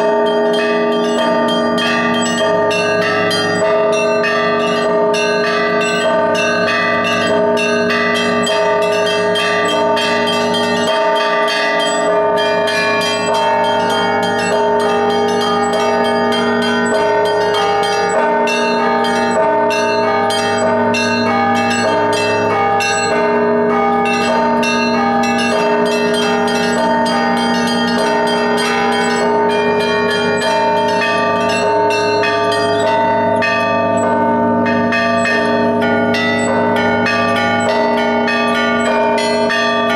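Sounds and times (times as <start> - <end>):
larger bells ringing: 0.0 - 39.9
small bells striking rapidly: 0.0 - 39.9.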